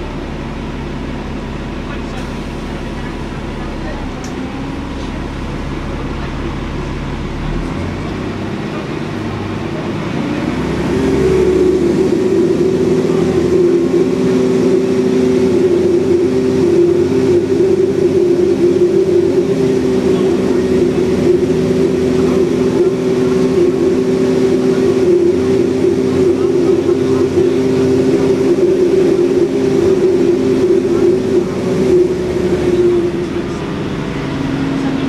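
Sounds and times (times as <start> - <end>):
bus diesel engine revving: 0.0 - 35.0.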